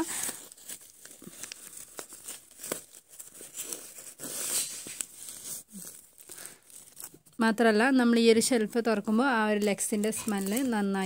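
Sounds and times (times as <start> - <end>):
wrapper crinkling among clothes: 0.0 - 11.0.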